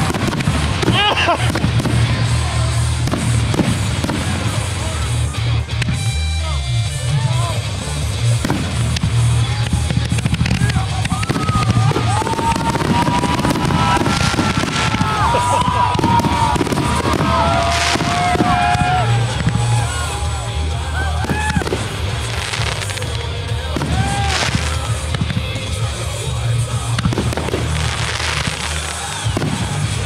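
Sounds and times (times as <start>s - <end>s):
fireworks bursting and crackling: 0.0s - 6.4s, 7.0s - 30.0s
music playing: 0.0s - 30.0s.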